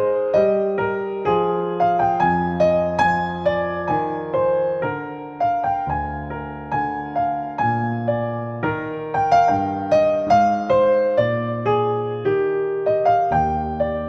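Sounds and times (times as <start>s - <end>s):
slow solo piano: 0.0s - 14.0s.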